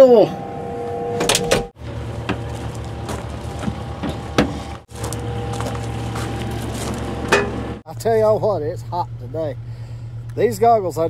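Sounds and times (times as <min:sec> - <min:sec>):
excavator diesel engine running: 0:00.4 - 0:11.0.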